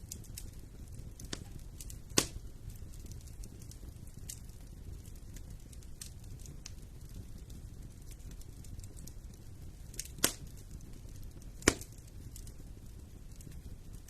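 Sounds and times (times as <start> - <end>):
fire crackling: 0.0 - 14.0
low rumble of flames: 0.0 - 14.0
sharp loud pops from fire: 0.0 - 14.0.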